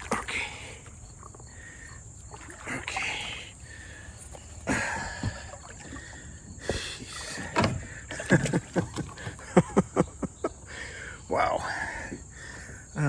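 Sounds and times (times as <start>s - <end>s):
water sloshing and swishing: 0.0s - 13.0s.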